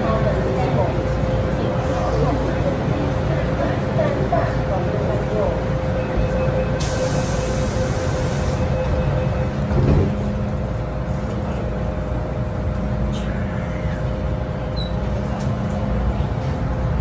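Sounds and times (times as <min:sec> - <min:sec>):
train running low rumble: 0:00.0 - 0:17.0.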